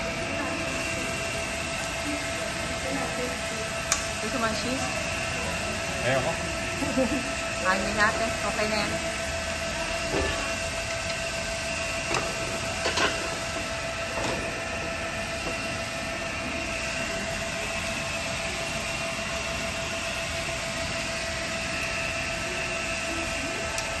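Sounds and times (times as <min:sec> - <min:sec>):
mechanical drone with hiss: 0:00.0 - 0:24.0.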